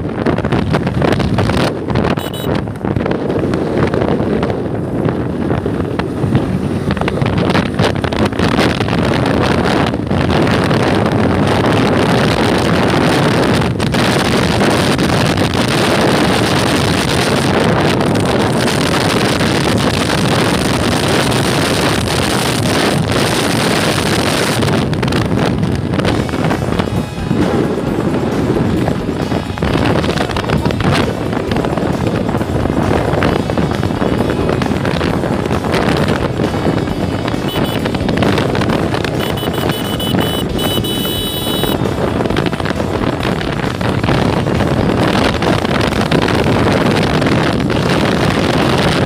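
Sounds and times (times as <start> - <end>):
motorcycle engine running hard: 0.0 - 49.0
wind rushing over microphone: 0.0 - 49.0.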